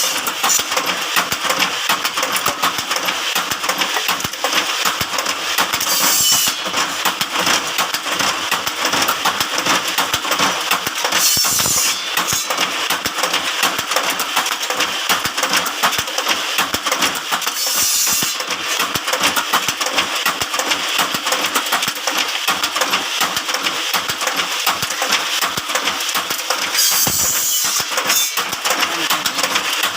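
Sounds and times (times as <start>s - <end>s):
machine metallic clatter: 0.0s - 29.9s.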